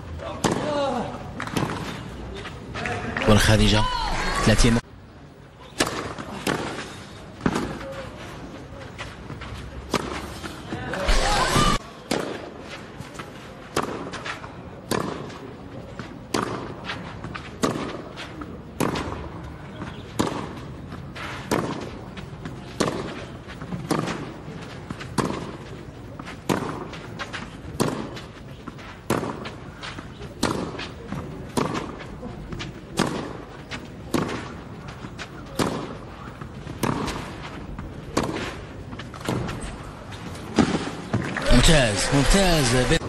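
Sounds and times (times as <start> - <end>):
tennis racquets hitting ball: 0.2 - 2.1, 5.8 - 7.8, 9.8 - 15.4, 16.1 - 19.3, 19.9 - 43.0.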